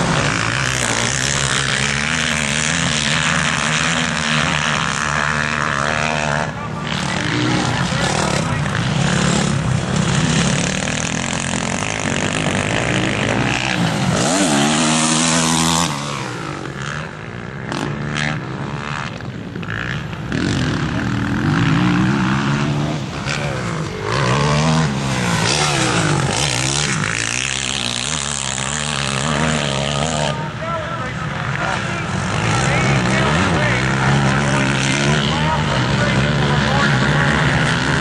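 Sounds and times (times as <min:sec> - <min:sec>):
motocross bikes revving past: 0:00.0 - 0:38.0.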